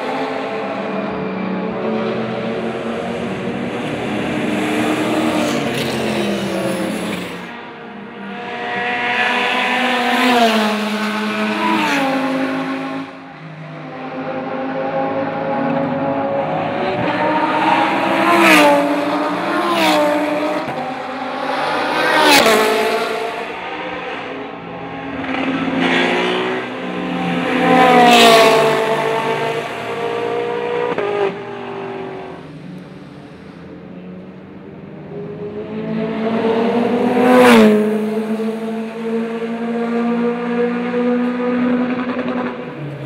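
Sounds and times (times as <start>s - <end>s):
race cars passing at high speed: 0.0s - 43.0s.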